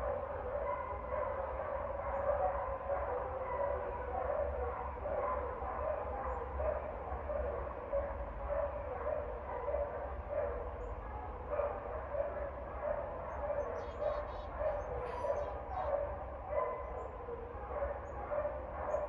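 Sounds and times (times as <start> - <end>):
dog barking: 0.0 - 19.0.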